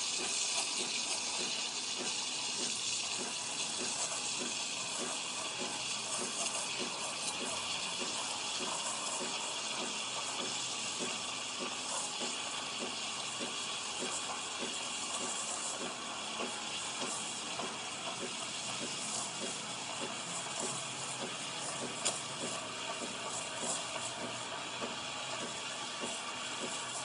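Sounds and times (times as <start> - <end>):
espresso machine steam hiss: 0.0 - 27.0
running water: 0.0 - 27.0.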